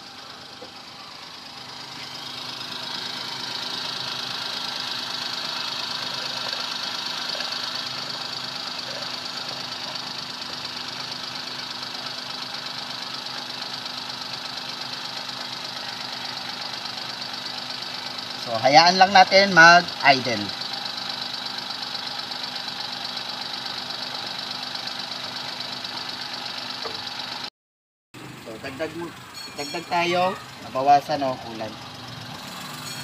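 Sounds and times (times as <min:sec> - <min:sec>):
car engine idling: 0:00.0 - 0:27.5, 0:28.2 - 0:33.0.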